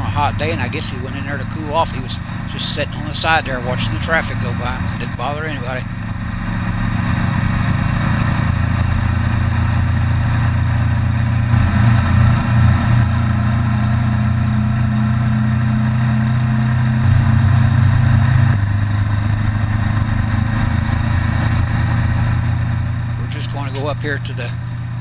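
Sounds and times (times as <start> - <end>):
motorcycle engine running: 0.0 - 25.0
rush of riding noise: 0.0 - 25.0.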